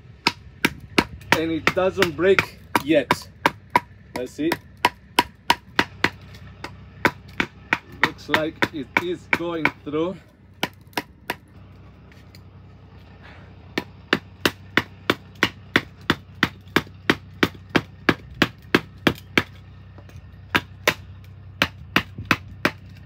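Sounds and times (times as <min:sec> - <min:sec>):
steady low hum: 0:00.0 - 0:23.0
baton hammering on knife blade: 0:00.2 - 0:09.9, 0:10.6 - 0:11.5, 0:13.8 - 0:19.6, 0:20.5 - 0:23.0.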